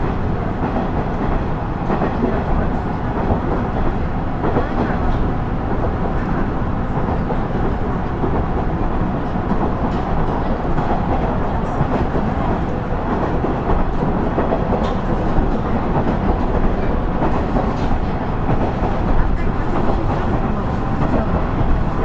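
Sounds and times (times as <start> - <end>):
railcar engine and wheels rumbling: 0.0 - 22.0.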